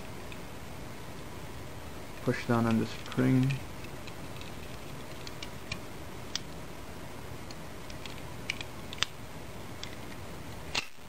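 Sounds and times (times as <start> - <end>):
faint hiss: 0.0 - 10.8.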